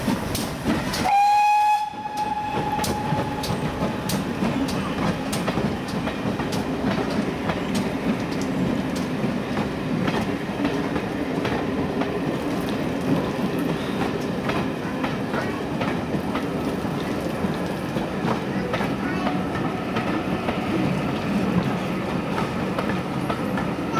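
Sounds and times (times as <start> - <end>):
wheels clicking over rail joints: 0.0 - 1.1, 2.0 - 23.9
train wheels rumbling: 0.0 - 23.9.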